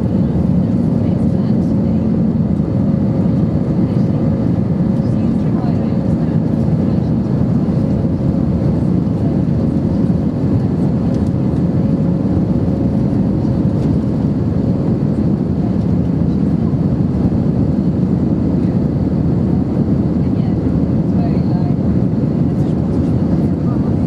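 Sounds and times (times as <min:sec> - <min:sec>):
aircraft cabin engine rush: 0:00.0 - 0:24.0.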